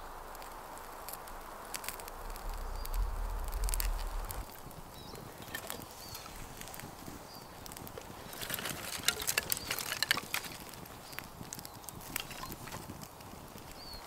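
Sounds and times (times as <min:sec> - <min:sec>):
twigs crackling in campfire: 0:00.0 - 0:14.0.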